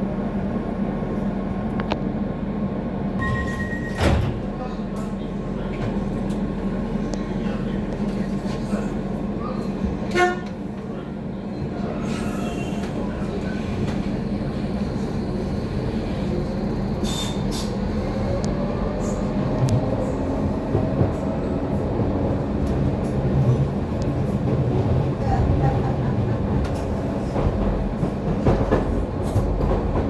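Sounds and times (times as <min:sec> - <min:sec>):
train motors and wheels humming: 0:00.0 - 0:30.0.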